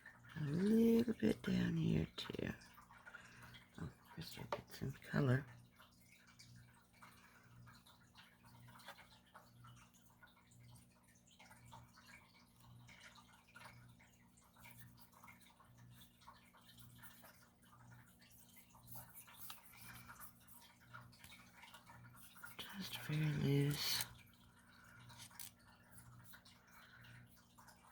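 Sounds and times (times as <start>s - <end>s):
faint ticks and scratches: 0.0s - 27.9s.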